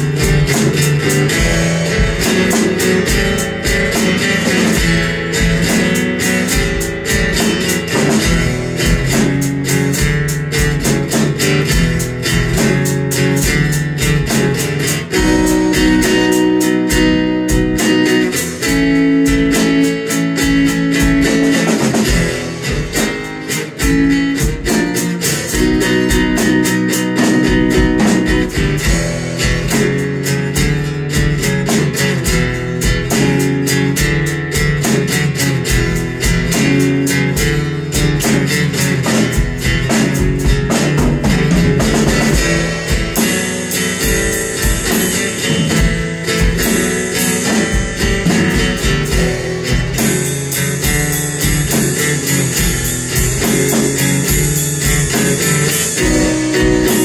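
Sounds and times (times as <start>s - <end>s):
blues guitar: 0.0s - 57.0s
drum kit steady beat: 0.0s - 57.0s.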